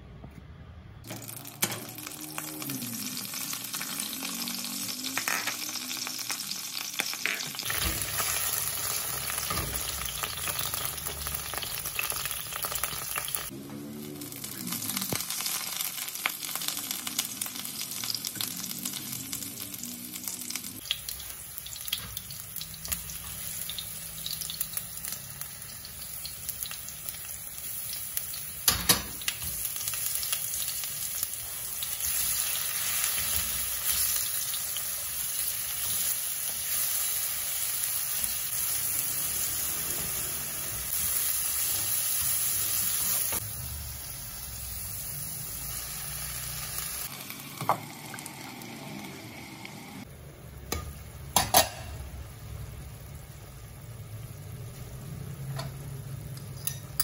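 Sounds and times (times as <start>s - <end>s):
oil sizzling in a wok: 1.1s - 57.0s.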